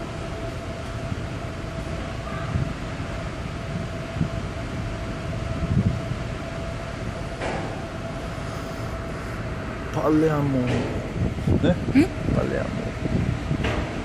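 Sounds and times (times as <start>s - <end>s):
ship machinery hum: 0.0s - 14.0s.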